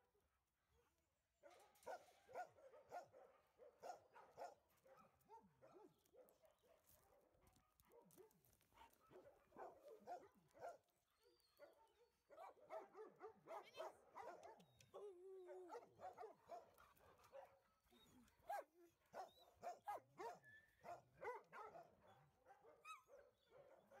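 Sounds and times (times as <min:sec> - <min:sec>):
dogs barking and yipping: 0:01.4 - 0:24.0.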